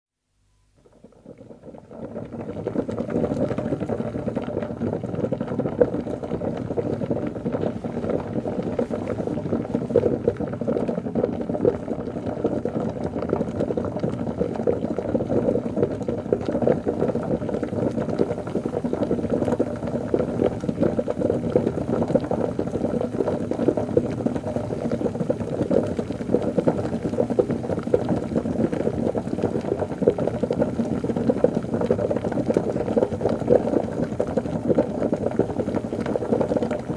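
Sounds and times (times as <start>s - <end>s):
liquid bubbling: 0.8s - 36.9s.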